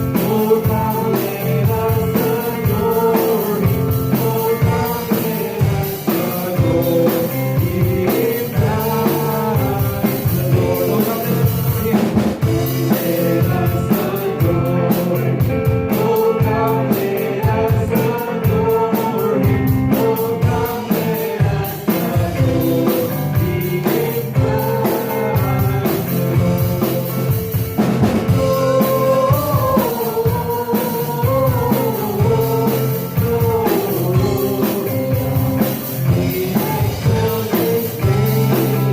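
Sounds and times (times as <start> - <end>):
drum kit: 0.0 - 38.9
guitar: 0.0 - 38.9
people singing: 0.0 - 38.9.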